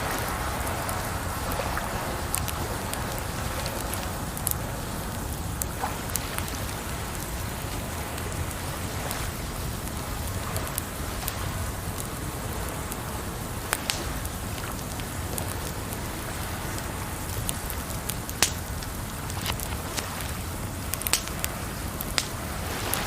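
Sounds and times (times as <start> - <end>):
campfire crackling and popping: 0.0 - 23.0
rushing water: 0.0 - 23.0.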